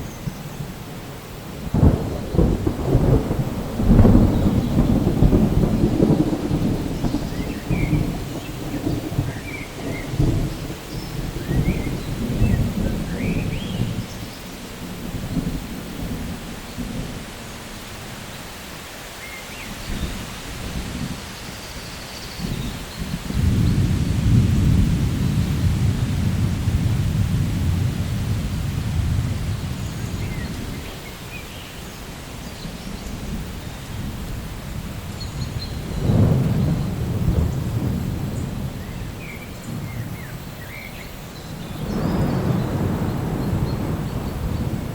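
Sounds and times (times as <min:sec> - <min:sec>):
rolling thunder: 0:00.0 - 0:17.6, 0:19.9 - 0:44.9
rain hiss: 0:00.0 - 0:44.9.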